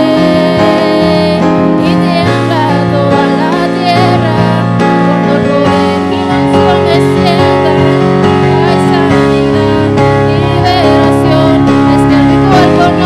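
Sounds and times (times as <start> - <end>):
electric bass: 0.0 - 13.0
person singing: 0.0 - 13.0
sustained keyboard chords: 0.0 - 13.0.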